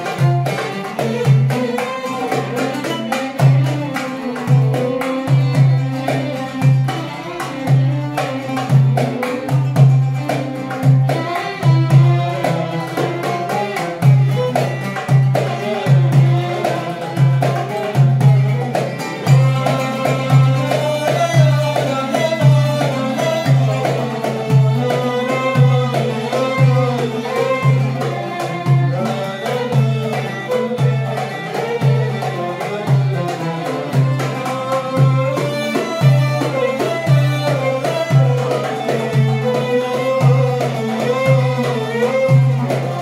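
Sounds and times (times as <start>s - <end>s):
goblet drum beat: 0.0s - 43.0s
traditional ensemble music: 0.0s - 43.0s.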